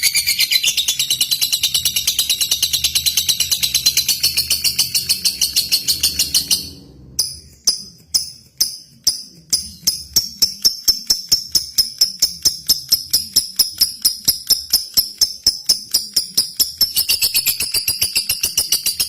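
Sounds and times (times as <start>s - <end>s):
lovebird chirping: 0.0s - 10.9s, 11.6s - 19.0s.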